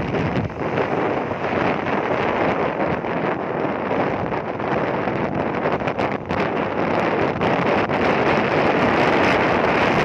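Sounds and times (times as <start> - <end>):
road noise: 0.0 - 10.0
wind rushing over microphone: 0.0 - 10.0.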